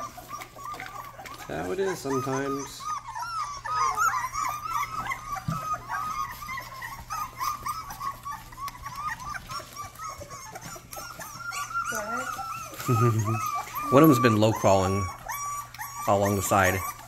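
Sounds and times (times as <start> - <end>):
puppies whimpering: 0.0 - 17.0.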